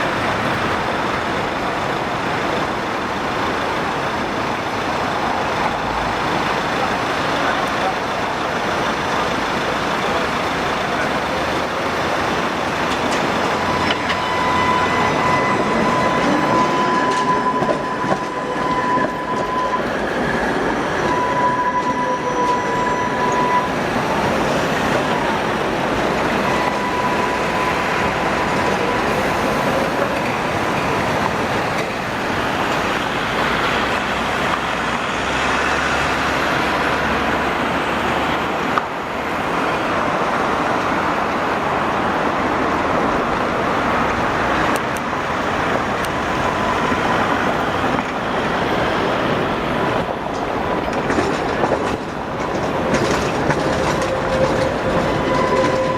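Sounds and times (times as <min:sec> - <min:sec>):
tram wheels rolling on rails: 0:00.0 - 0:55.9.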